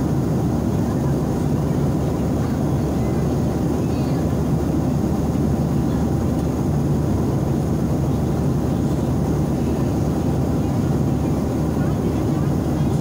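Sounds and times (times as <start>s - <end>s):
jet cabin engine rumble: 0.0s - 13.0s.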